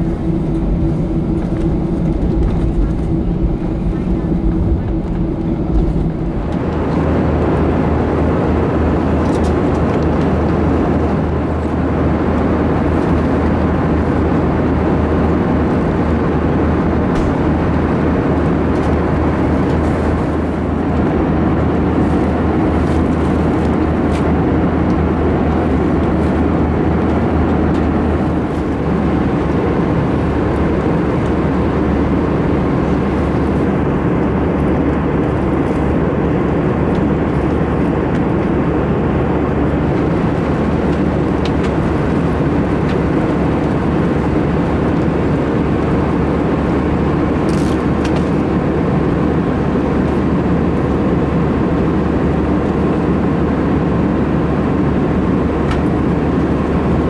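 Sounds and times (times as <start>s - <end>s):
airliner cabin noise: 0.0s - 57.0s
constant low hum: 0.0s - 57.0s.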